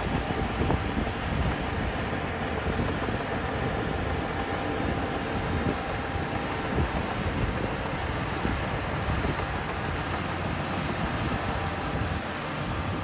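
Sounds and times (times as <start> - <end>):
bulldozer diesel engine rumbling: 0.0 - 13.0
wind buffeting microphone: 0.0 - 13.0.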